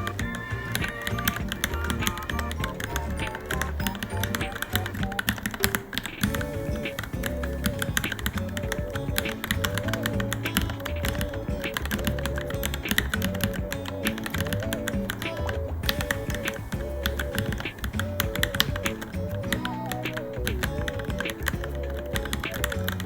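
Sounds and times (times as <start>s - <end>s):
background music with repeating melody: 0.0s - 23.0s.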